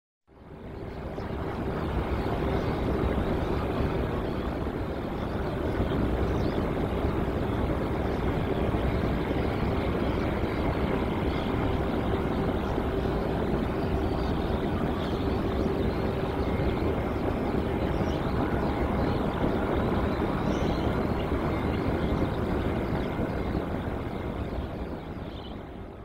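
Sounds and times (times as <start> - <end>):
jet engines rushing and humming: 0.3 - 26.0.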